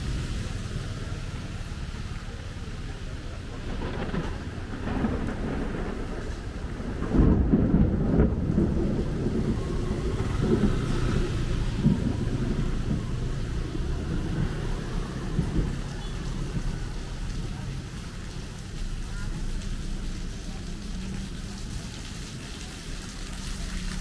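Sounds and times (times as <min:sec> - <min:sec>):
thunder rumbling: 0:00.0 - 0:22.0
heavy rain: 0:00.0 - 0:24.0.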